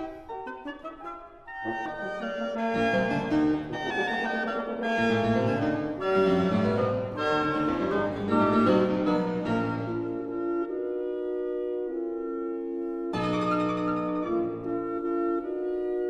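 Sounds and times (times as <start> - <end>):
fortepiano: 0.0 - 16.0
wind quartet: 0.0 - 16.0.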